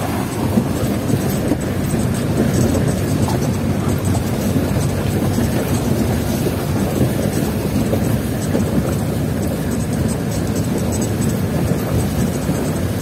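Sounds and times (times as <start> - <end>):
jeep engine rumbling inside cabin: 0.0 - 13.0.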